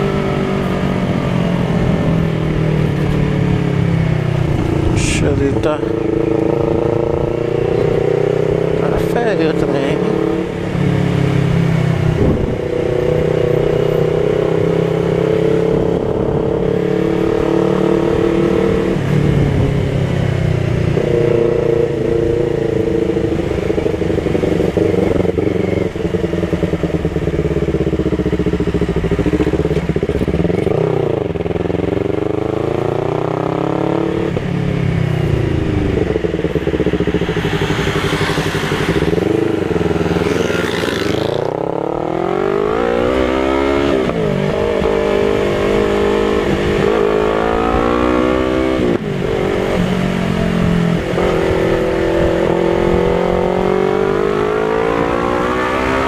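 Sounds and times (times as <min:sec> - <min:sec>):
motorcycle engine running: 0:00.0 - 0:54.2.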